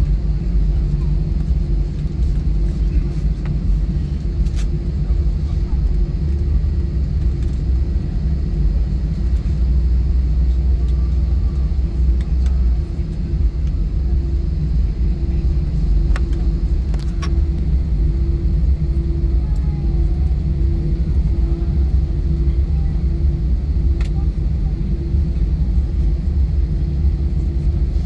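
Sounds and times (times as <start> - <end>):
airplane cabin rumble: 0.0 - 28.0
pulsing low hum: 0.0 - 28.0.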